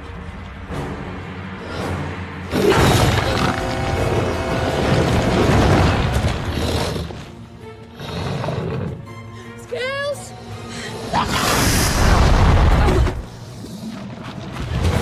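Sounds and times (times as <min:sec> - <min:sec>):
dramatic orchestral music: 0:00.0 - 0:15.0.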